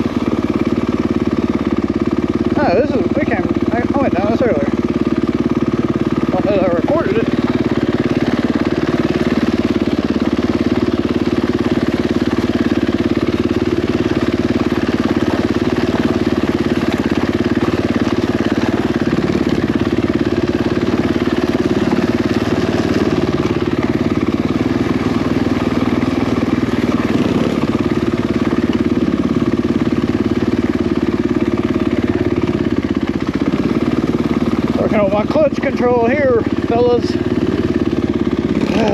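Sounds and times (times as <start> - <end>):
dirt bike engine at low revs: 0.0 - 38.9.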